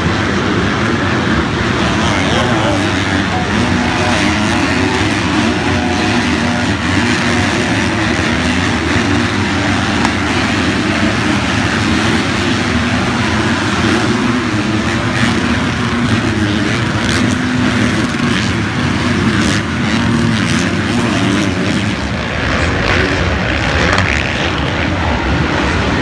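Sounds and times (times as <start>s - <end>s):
motocross bike engines racing: 0.0s - 26.0s.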